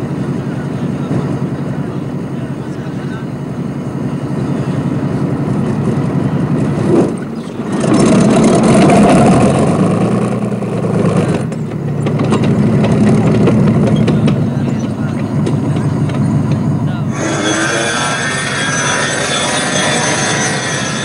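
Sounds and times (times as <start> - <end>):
tank diesel engine revving: 0.0 - 21.0.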